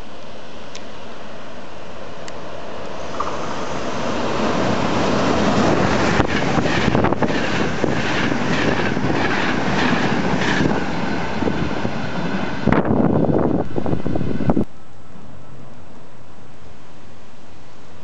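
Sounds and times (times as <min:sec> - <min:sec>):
train rushing past: 0:01.2 - 0:15.8.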